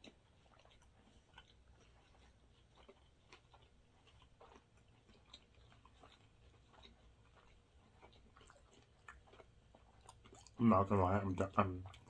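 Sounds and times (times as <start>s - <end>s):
mouth chewing clicks and smacks: 0.0s - 12.0s.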